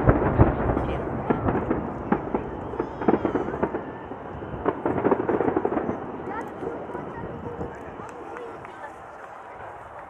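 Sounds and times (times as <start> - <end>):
fireworks crackling pops: 0.0 - 10.0.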